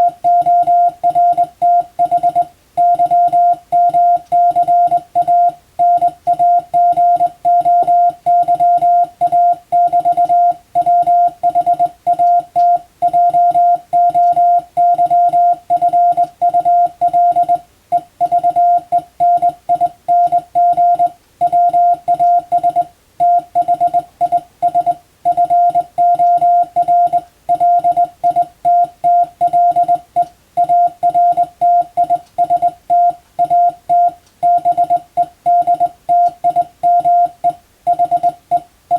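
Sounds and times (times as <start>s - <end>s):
morse code tone: 0.0s - 38.7s.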